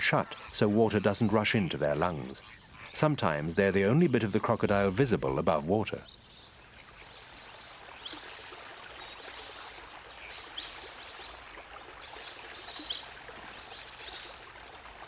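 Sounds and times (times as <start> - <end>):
flowing water: 0.0 - 15.0.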